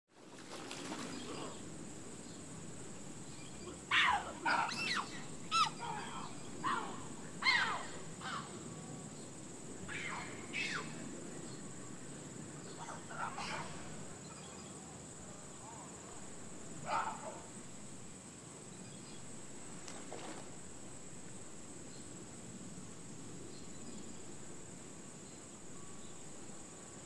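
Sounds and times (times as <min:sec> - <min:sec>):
steady high-pitched whine: 0:00.3 - 0:27.0.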